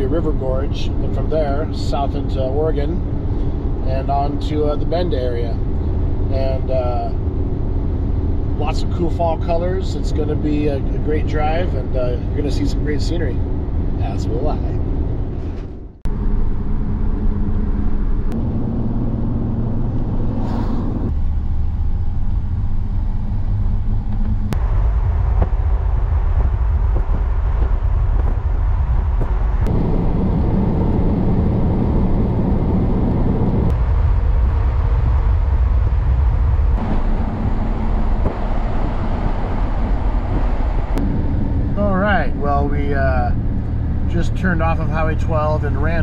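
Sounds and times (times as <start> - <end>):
pickup engine and road noise: 0.0 - 46.0.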